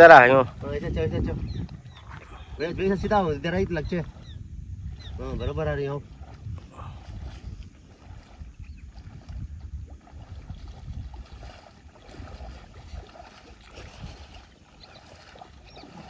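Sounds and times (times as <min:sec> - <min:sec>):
small waves lapping: 0:00.0 - 0:16.0
wind rumbling on microphone: 0:00.0 - 0:16.0.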